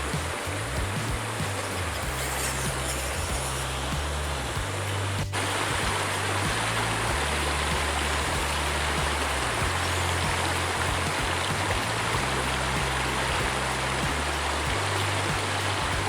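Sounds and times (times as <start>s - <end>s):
music with low bass notes: 0.0s - 16.0s
waterfall rushing: 0.0s - 16.0s.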